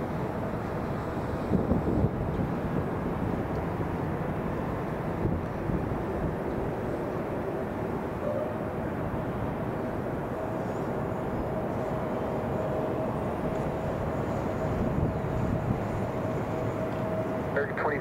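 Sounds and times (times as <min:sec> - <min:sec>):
jet airliner rumble and whine: 0:00.0 - 0:18.0.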